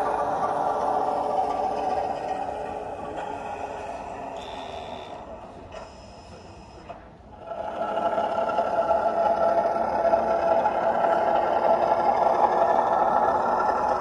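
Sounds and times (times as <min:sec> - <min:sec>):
model diesel engine drone: 0:00.0 - 0:14.0.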